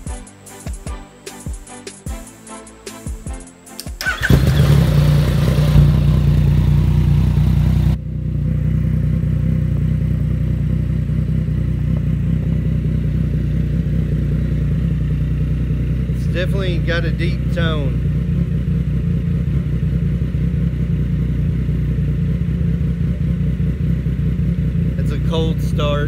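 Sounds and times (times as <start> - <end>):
motorcycle engine idling: 4.0 - 26.0.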